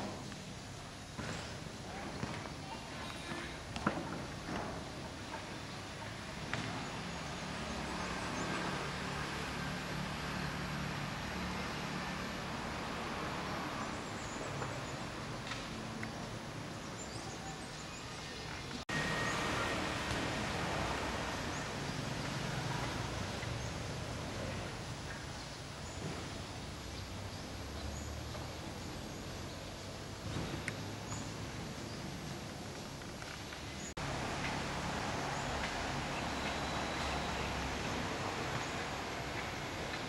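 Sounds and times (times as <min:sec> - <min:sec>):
distant traffic hum: 0:00.0 - 0:40.0.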